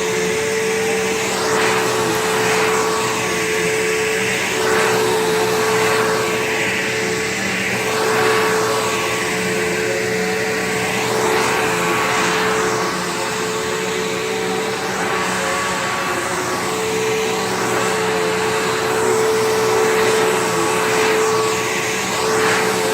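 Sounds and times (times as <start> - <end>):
upright vacuum cleaner running: 0.0 - 22.9.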